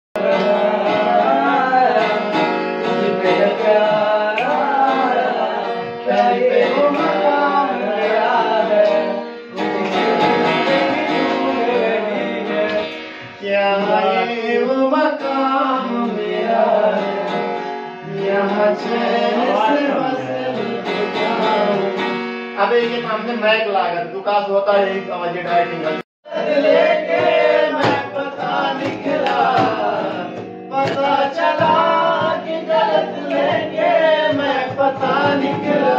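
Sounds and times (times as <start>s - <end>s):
person singing: 0.2s - 22.2s, 25.8s - 35.9s
acoustic guitar strumming: 0.2s - 35.9s.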